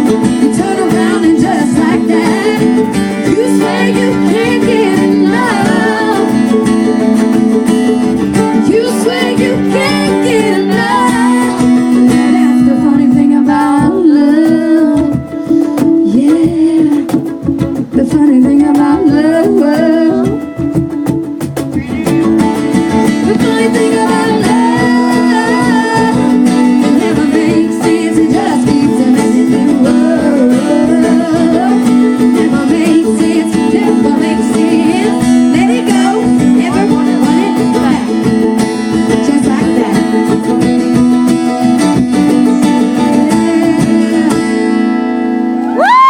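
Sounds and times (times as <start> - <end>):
woman singing: 0.0 - 7.4, 8.4 - 21.0, 23.1 - 45.2
acoustic guitar strumming: 0.0 - 46.0.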